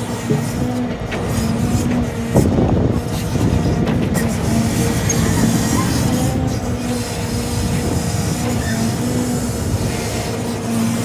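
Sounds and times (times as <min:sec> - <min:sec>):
diesel engine under load: 0:00.0 - 0:11.0
hydraulic whine: 0:00.0 - 0:11.0.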